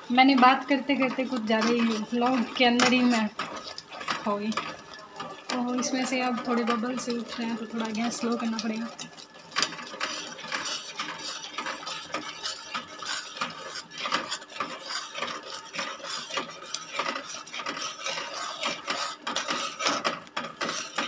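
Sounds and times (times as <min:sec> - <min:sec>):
metal spatula scraping a pan: 0:00.0 - 0:21.0.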